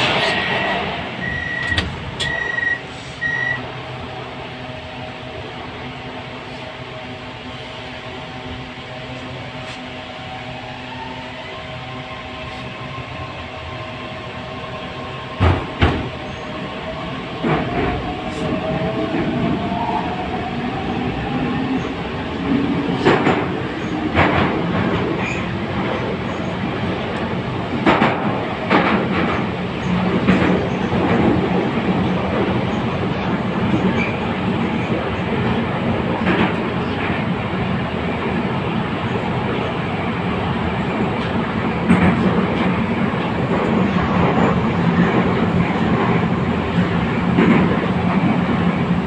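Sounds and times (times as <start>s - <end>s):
train rumble in tunnel: 0.0s - 49.0s.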